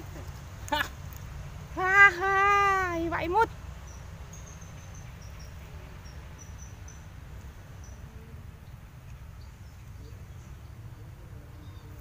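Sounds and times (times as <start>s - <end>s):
crickets chirping: 1.3s - 12.0s.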